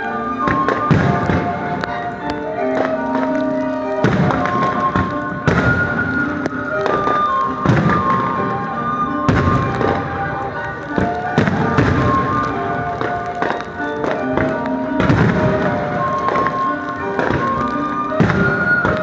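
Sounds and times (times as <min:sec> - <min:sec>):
firework shells bursting: 0:00.0 - 0:19.0
music over loudspeakers: 0:00.0 - 0:19.0.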